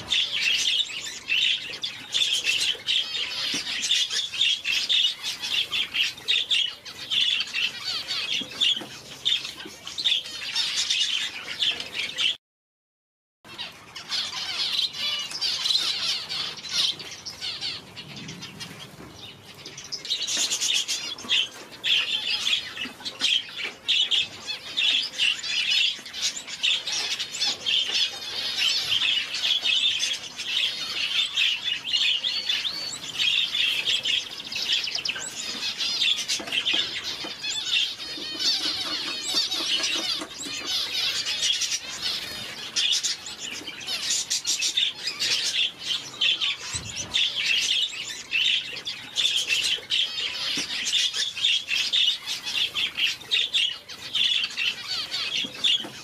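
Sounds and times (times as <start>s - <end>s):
finches chirping: 0.0s - 12.4s, 13.5s - 56.0s.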